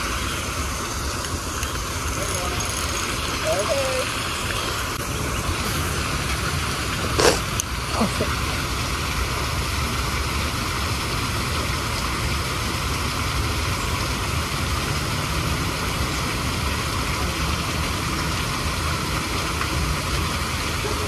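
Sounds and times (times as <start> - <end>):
water rushing over spillway: 0.0 - 21.0.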